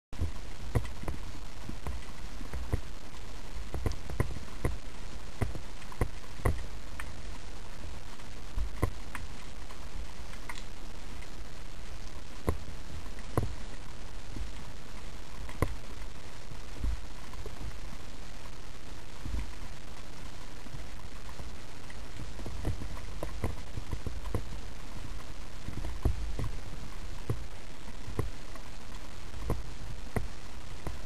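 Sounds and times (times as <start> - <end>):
sharp underwater clicks: 0.2 - 7.5, 8.2 - 18.6, 19.2 - 31.0.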